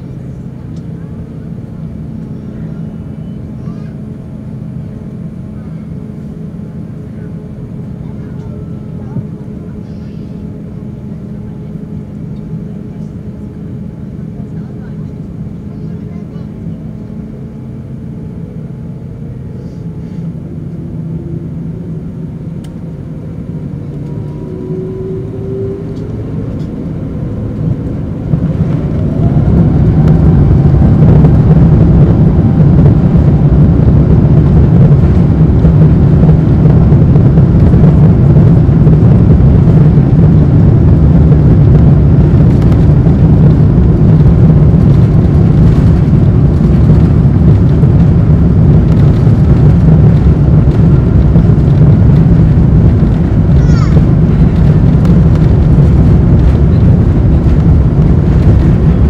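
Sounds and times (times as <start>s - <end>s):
jet engines whining: 0.0s - 59.0s
takeoff thrust rumble: 0.0s - 59.0s.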